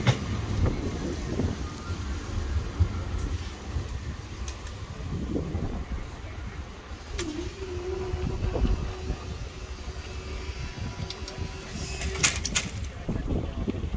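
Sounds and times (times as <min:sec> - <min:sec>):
wind rumbling on microphone: 0:00.0 - 0:13.9.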